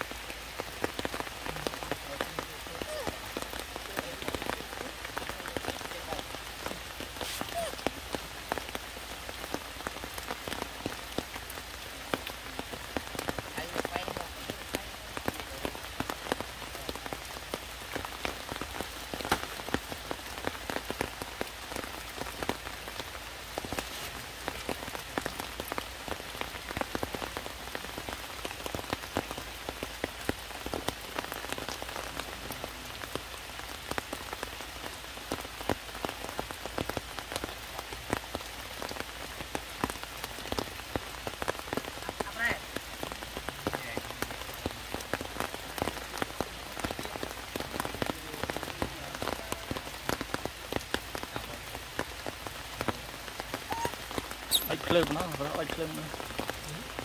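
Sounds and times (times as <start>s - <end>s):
heavy rain on rocks and leaves: 0.0s - 57.0s.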